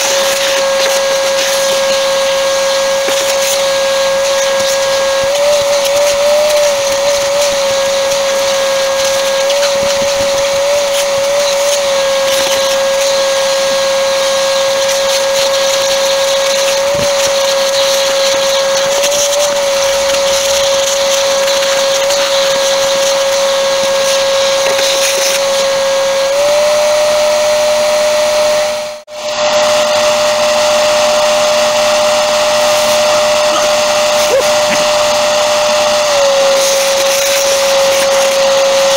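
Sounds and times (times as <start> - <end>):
shop vacuum whining: 0.0 - 38.9.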